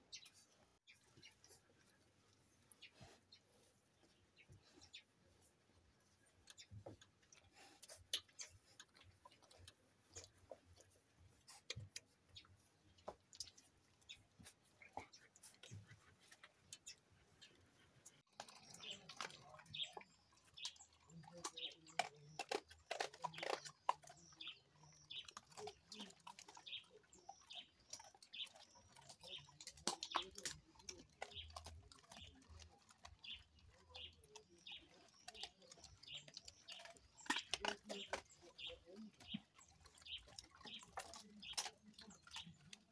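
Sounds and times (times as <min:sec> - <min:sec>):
dogs chewing and crunching: 0:00.0 - 0:42.9.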